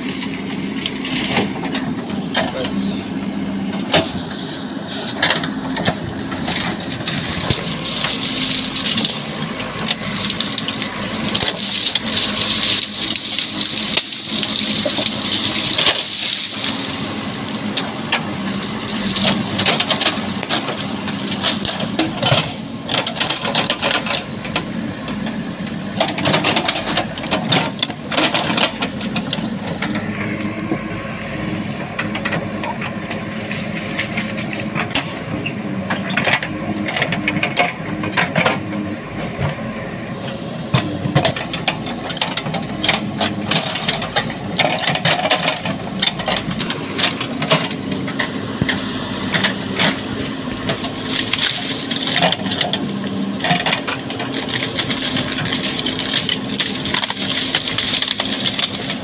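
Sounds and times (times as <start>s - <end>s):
bamboo cracking and rattling: 0.0s - 59.0s
diesel engine under load: 0.0s - 59.0s.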